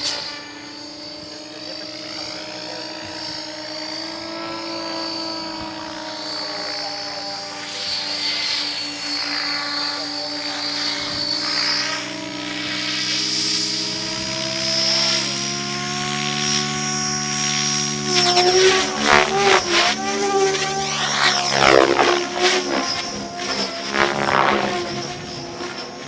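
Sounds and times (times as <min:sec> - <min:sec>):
model helicopter motor and rotor whine: 0:00.0 - 0:26.0.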